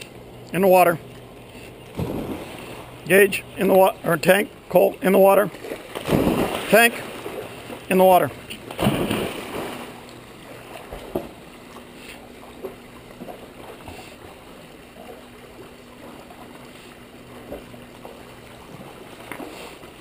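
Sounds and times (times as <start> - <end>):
water sloshing and lapping: 0.0 - 20.0
water splashing: 0.0 - 20.0.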